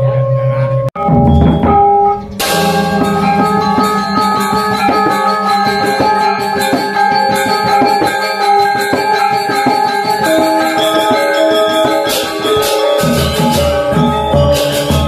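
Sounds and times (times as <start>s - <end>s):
gamelan ensemble playing: 0.4s - 15.0s
crashing gong strokes: 1.0s - 15.0s.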